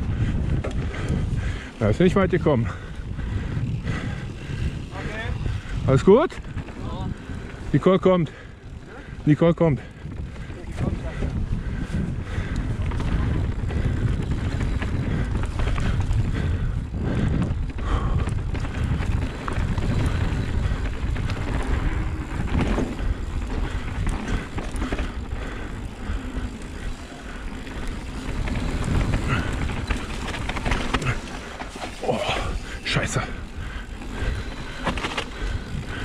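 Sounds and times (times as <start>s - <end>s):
rumble of bike tyres: 0.0s - 36.0s
wind buffeting microphone: 0.0s - 36.0s
bike rattles and knocks: 0.1s - 36.0s.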